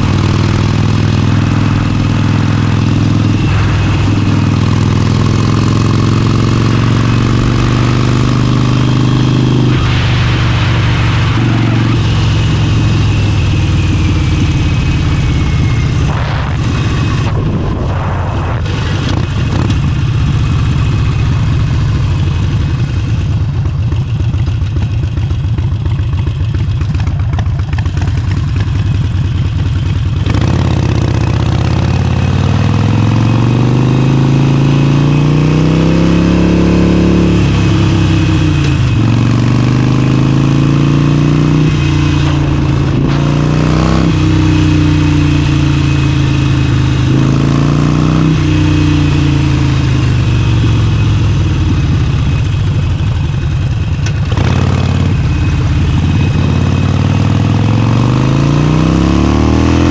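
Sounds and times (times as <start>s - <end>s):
motorcycle engine riding: 0.0s - 59.9s.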